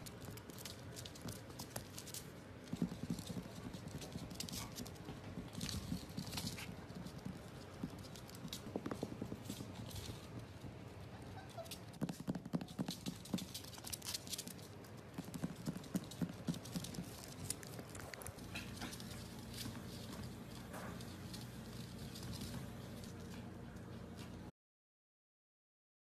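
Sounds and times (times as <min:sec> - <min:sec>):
puppy claws clicking on wood floor: 0:00.0 - 0:24.5.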